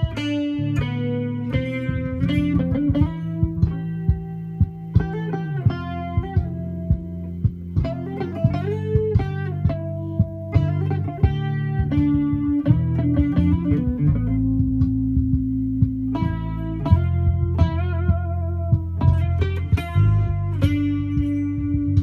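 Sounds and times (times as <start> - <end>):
plucked guitar: 0.0 - 22.0.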